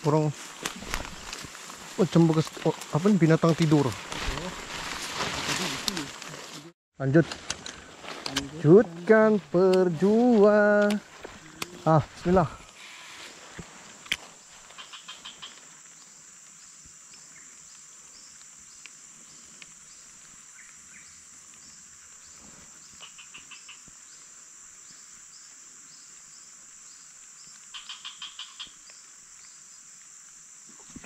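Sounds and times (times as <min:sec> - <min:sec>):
insect chorus chirping: 0:00.0 - 0:31.0.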